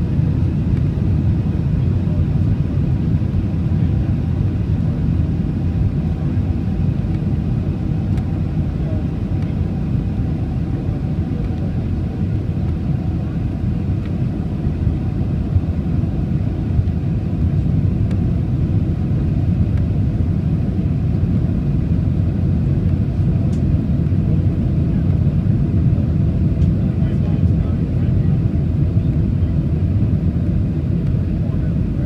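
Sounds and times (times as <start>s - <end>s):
airliner cabin engine rumble: 0.0s - 32.0s.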